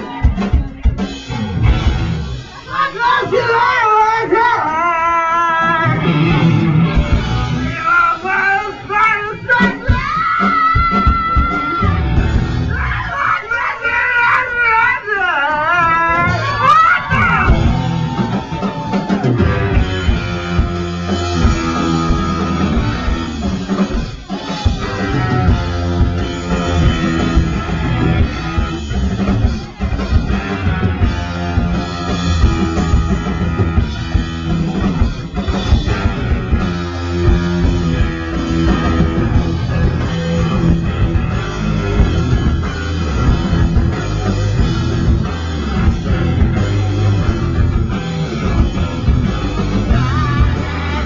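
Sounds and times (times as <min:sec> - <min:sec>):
drum kit beat: 0:00.0 - 0:13.2, 0:15.8 - 0:51.0
bass guitar: 0:00.0 - 0:51.0
distorted electric guitars: 0:00.0 - 0:51.0.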